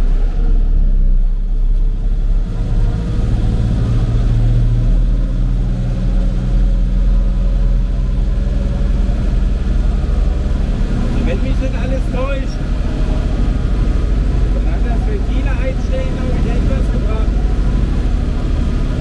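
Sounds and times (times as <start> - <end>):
tractor engine running under load: 0.0 - 19.0.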